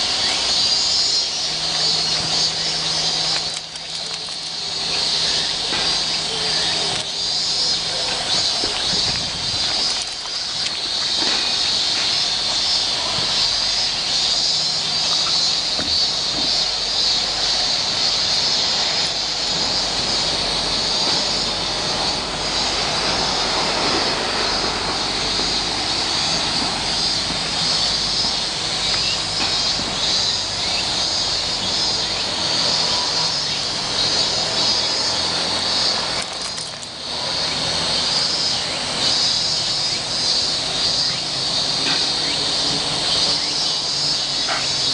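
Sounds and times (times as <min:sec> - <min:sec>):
broad rushing noise: 0:00.0 - 0:44.9
cicadas singing: 0:00.0 - 0:44.9.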